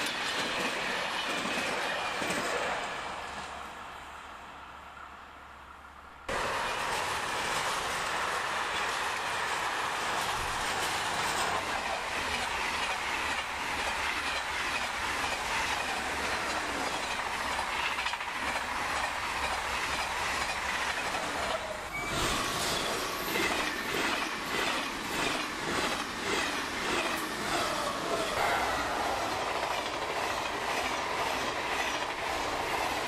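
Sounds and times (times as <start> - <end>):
high-speed train wheels clattering: 0.0 - 3.8, 6.3 - 33.0
freight train rushing by: 0.0 - 33.0.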